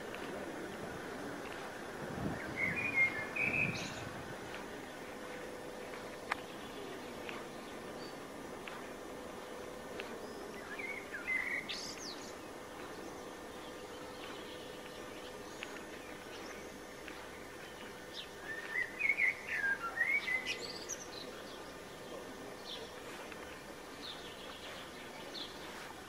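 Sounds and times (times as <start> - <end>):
background hiss: 0.0 - 26.0
faint hum: 0.0 - 26.0
small birds chirping: 0.0 - 26.0.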